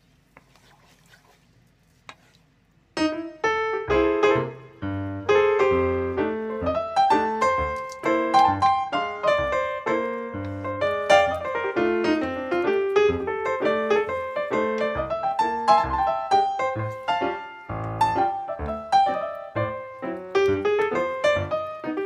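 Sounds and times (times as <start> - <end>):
piano music: 3.0 - 22.0.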